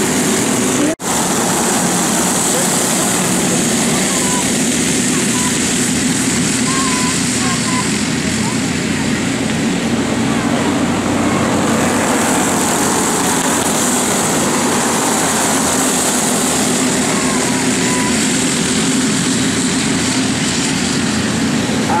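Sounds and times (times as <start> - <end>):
go-kart engines running: 0.0 - 22.0.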